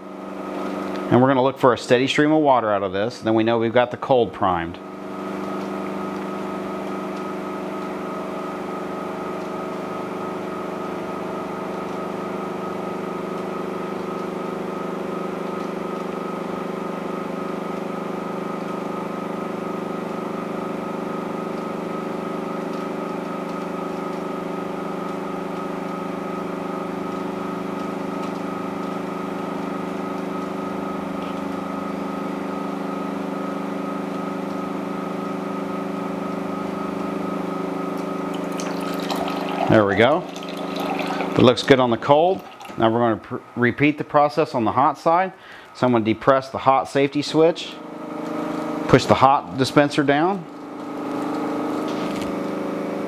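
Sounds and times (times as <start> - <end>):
water pump humming: 0.0 - 53.0.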